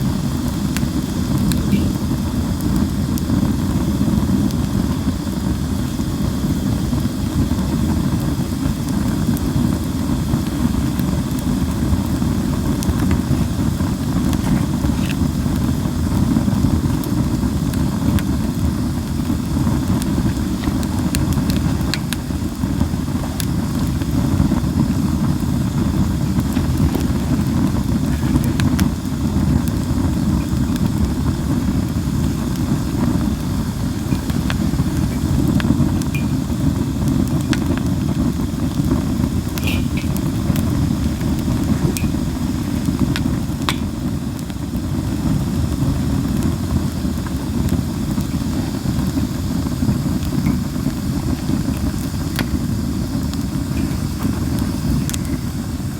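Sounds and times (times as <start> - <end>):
fire crackles and pops: 0.0 - 55.9
logs burning with low rumble: 0.0 - 55.9.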